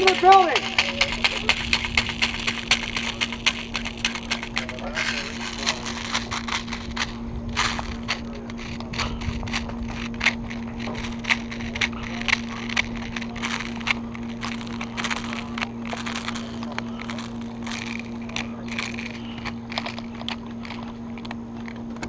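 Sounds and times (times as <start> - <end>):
lawn mower engine hum: 0.0 - 22.0
sharp clicks and snaps: 0.0 - 22.0.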